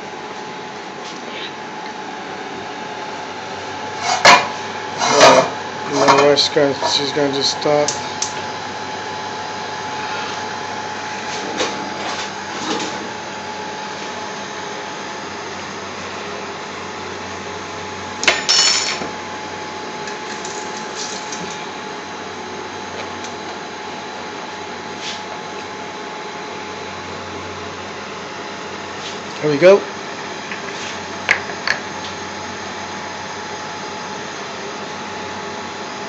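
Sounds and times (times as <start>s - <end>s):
whirring room noise: 0.0s - 36.0s.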